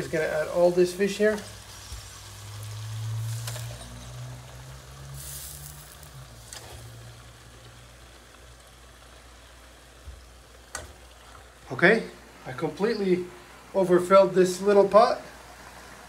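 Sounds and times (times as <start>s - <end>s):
sauce sizzling in a pot: 0.0s - 16.0s.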